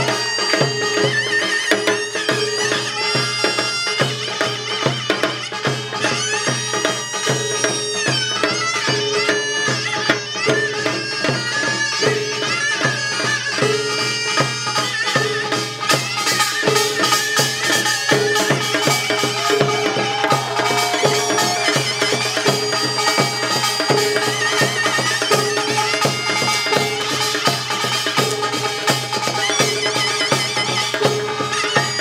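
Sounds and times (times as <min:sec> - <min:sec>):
drums beating: 0:00.0 - 0:32.0
shrill shawm melody: 0:00.0 - 0:32.0.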